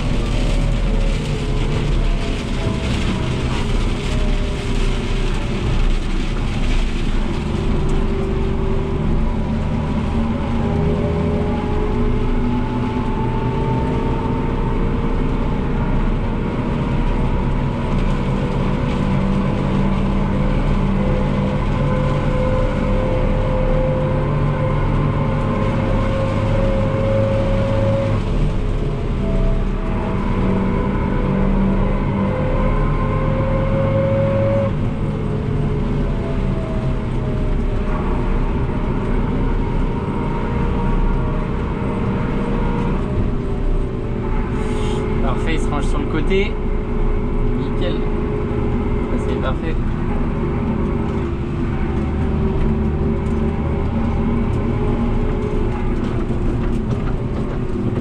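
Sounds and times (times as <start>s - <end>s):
rising whine: 0.0s - 58.0s
tractor diesel engine running: 0.0s - 58.0s.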